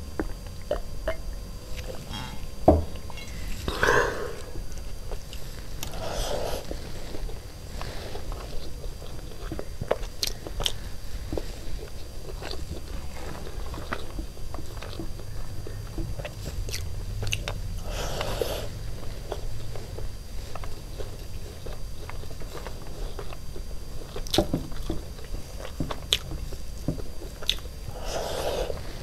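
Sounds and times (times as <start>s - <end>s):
low room hum: 0.0s - 29.0s
close chewing: 4.4s - 29.0s.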